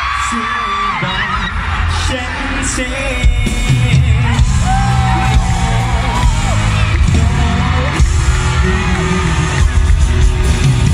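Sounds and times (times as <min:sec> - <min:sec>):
man singing: 0:00.0 - 0:10.4
bass-driven pop backing: 0:00.0 - 0:10.9.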